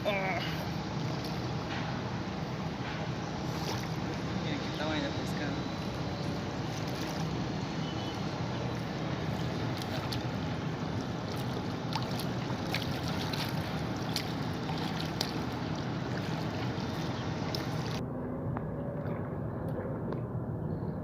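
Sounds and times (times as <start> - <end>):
steady low rumbling: 0.0 - 21.0.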